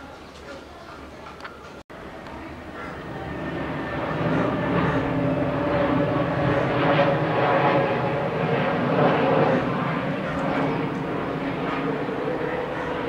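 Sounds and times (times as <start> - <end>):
jet engines passing low: 1.3 - 13.0.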